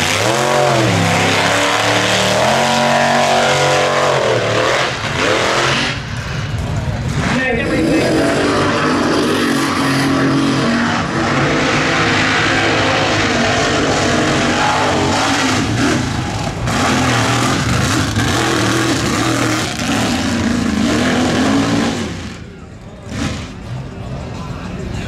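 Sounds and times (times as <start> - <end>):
buggy engine revving high: 0.0 - 24.1.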